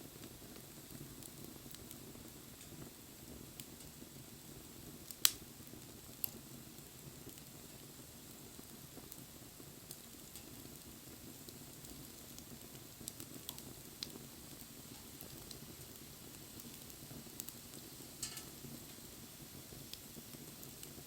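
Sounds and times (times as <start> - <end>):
sharp crackles and pops: 0.0 - 21.0
wood fire crackling: 0.0 - 21.0.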